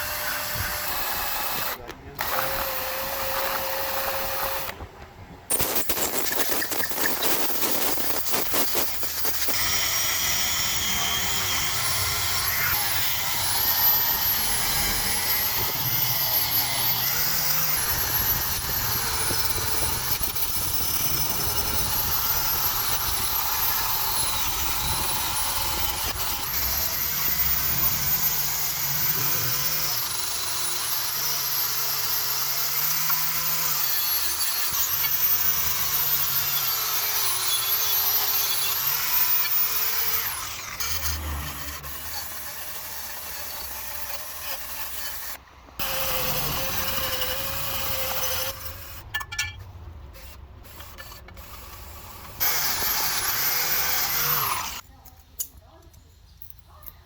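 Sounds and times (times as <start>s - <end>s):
power tool motor whine: 0.0s - 4.8s, 5.5s - 49.0s, 50.2s - 54.8s.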